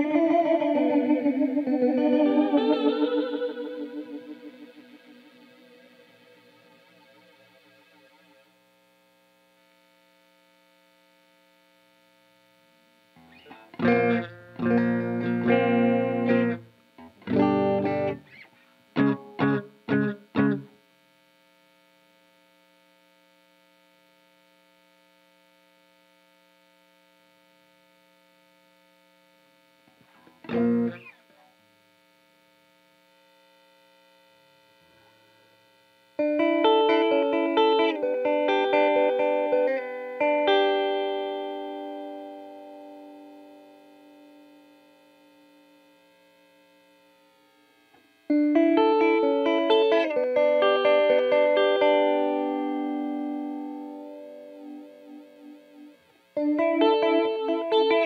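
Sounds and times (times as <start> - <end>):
electric guitar chords: 0.0 - 58.0
faint steady hum: 0.0 - 58.0.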